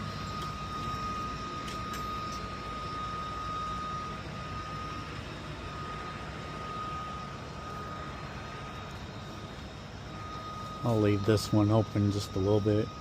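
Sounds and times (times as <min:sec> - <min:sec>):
faint thin whine: 0:00.0 - 0:13.0.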